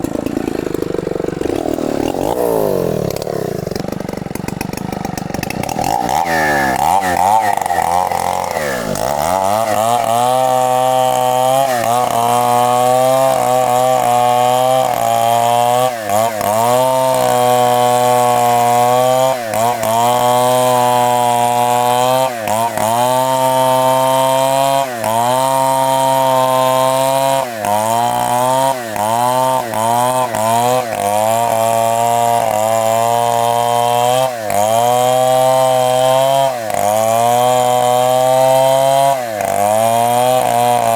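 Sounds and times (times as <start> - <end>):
chainsaw cutting tree trunk: 0.0 - 40.9.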